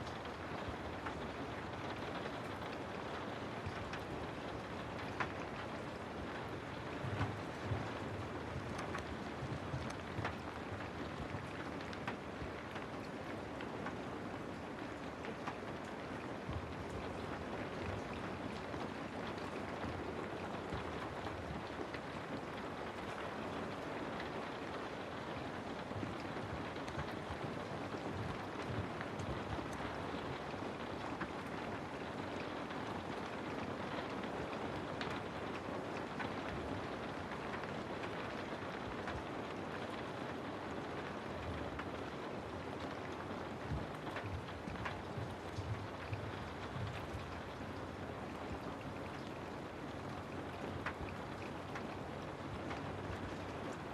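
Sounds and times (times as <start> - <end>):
rain falling on a house: 0.0 - 53.9.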